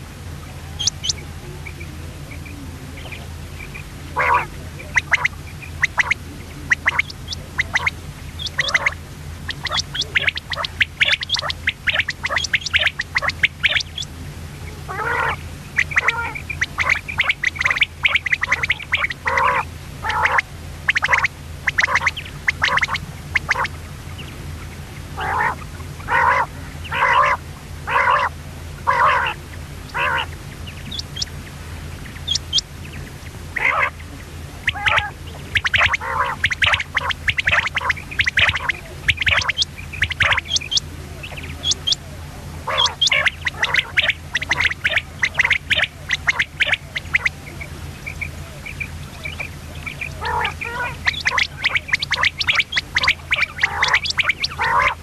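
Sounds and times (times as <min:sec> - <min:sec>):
quail calling: 0:00.0 - 0:55.0
steady low hum: 0:00.0 - 0:55.0.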